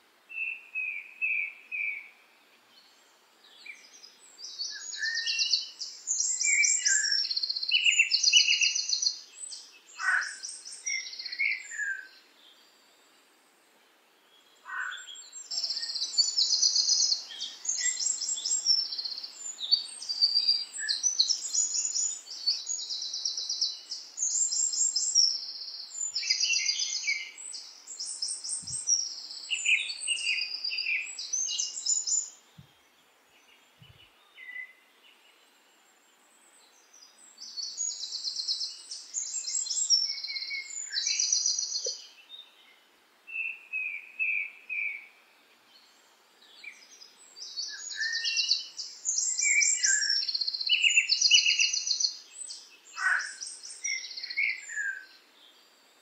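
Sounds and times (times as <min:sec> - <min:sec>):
small birds chirping: 0:00.3 - 0:13.4, 0:14.1 - 0:56.0.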